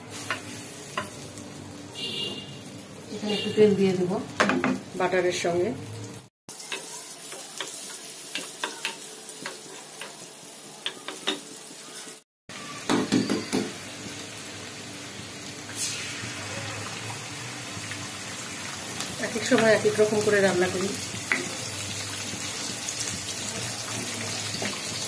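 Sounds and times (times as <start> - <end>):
butter and oil sizzling in a wok: 0.0 - 25.0.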